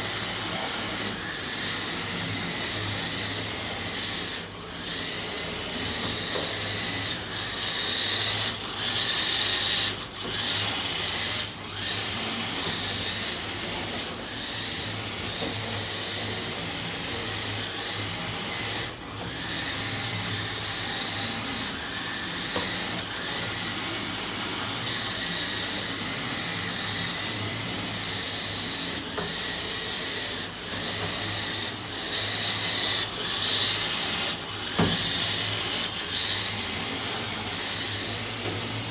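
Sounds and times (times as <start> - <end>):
electric toy motor whirring: 0.0 - 38.9.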